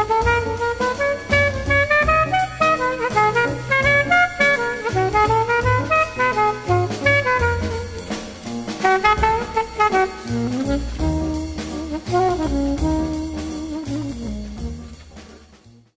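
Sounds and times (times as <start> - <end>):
jazzy background music: 0.0 - 15.9.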